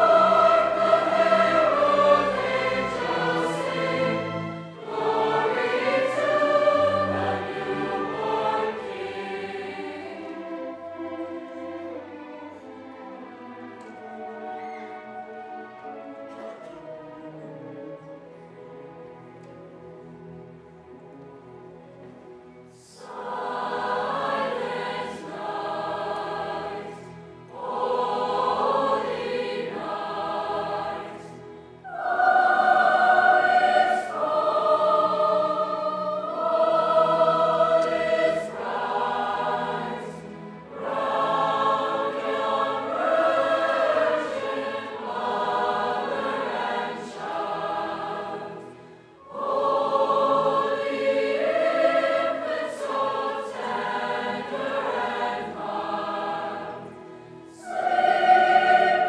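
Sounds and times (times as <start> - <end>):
choir singing a carol: 0.0 - 59.0.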